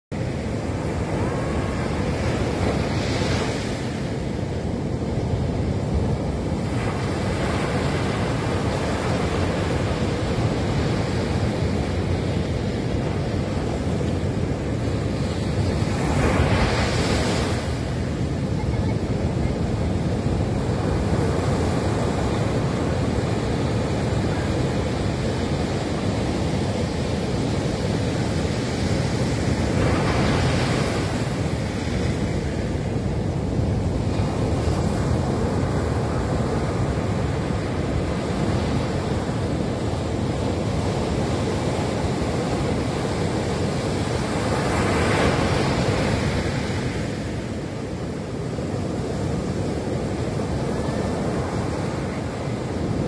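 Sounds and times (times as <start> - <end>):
waves crashing: 0.1 - 53.0
waves washing on beach: 0.1 - 53.0.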